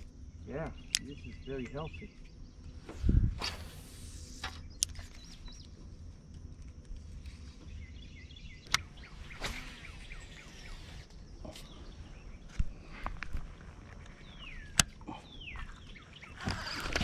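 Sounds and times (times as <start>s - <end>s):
low rumble and hiss: 0.0s - 16.8s
birds chirping: 0.0s - 17.0s.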